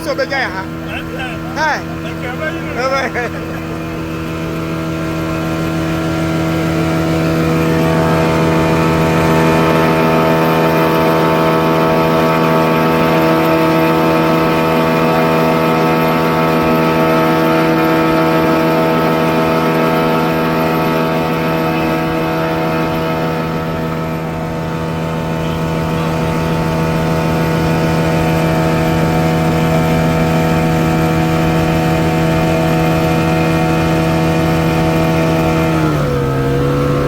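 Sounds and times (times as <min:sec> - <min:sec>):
motorboat engine running: 0:00.0 - 0:37.0.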